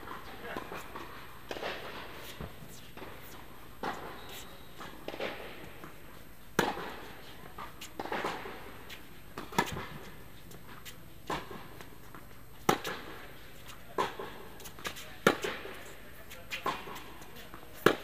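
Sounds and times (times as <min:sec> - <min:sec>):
tennis balls struck by rackets: 0:00.0 - 0:18.0.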